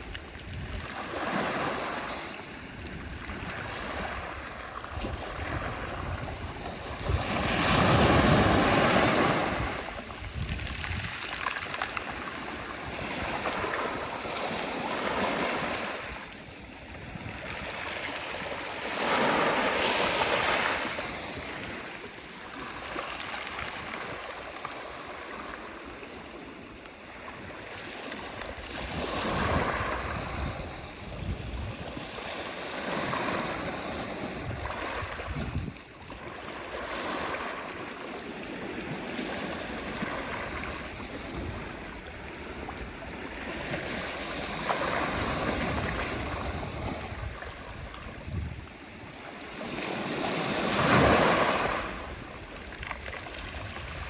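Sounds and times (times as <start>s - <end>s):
sea waves breaking: 0.0s - 26.3s, 27.6s - 54.0s.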